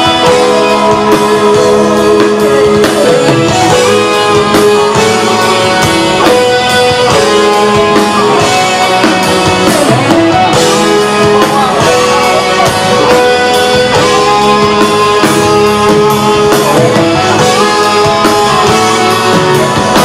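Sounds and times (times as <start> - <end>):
bass guitar: 0.0 - 20.0
drums: 0.0 - 20.0
electric guitar: 0.0 - 20.0
keyboards: 0.0 - 20.0.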